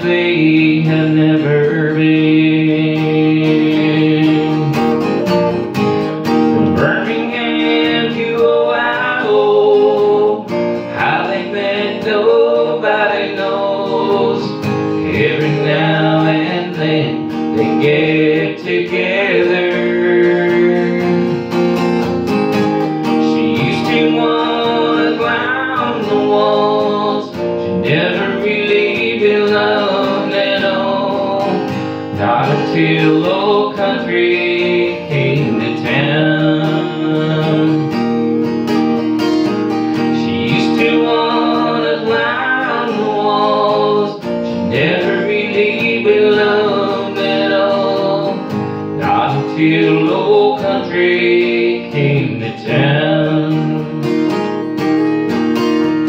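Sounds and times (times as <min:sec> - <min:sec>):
man singing: 0:00.0 - 0:05.1, 0:06.4 - 0:21.7, 0:23.0 - 0:38.2, 0:40.0 - 0:54.2
acoustic guitar strumming: 0:00.0 - 0:56.0.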